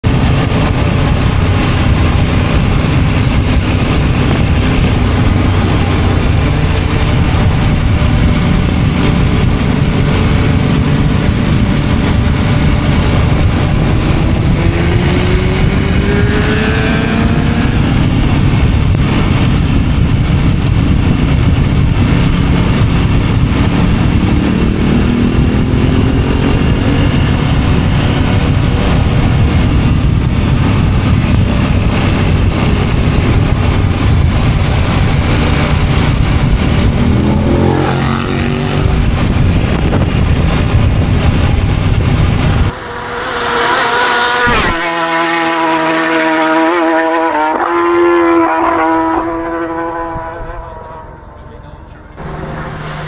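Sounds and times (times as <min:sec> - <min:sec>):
heavy wind noise: 0:00.0 - 0:53.0
motorcycle engine: 0:00.0 - 0:53.0.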